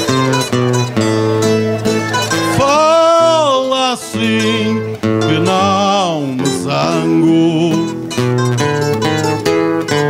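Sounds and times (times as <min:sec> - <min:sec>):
plucked strings and acoustic guitar: 0:00.0 - 0:10.0.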